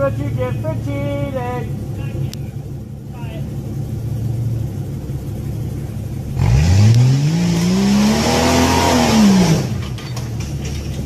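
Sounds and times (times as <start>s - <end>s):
suv engine revving: 0.0s - 11.0s.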